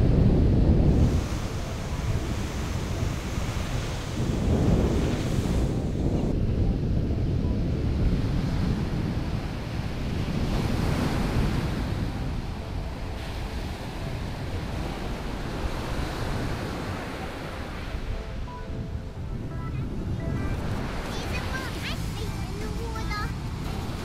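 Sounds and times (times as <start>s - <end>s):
ocean surf breaking: 0.0s - 6.5s, 7.4s - 24.0s
wind rumbling on microphone: 0.0s - 24.0s.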